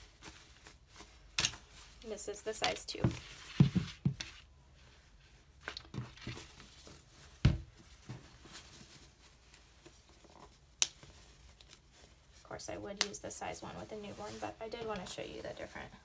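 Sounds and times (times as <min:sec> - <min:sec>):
fabric rustling: 0:00.0 - 0:16.0.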